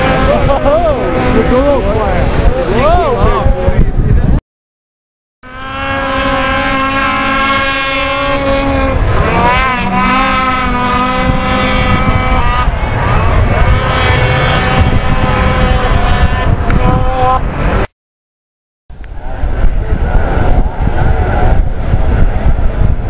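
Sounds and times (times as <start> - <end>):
snowmobile engines: 0.0 - 4.2, 5.4 - 17.9, 19.0 - 23.0.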